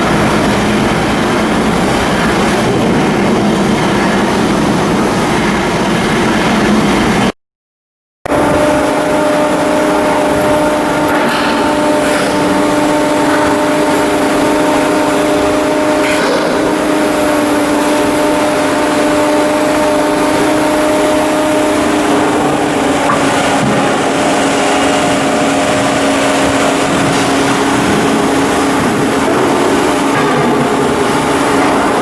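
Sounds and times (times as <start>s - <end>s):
machine humming: 0.0s - 7.3s, 8.3s - 32.0s.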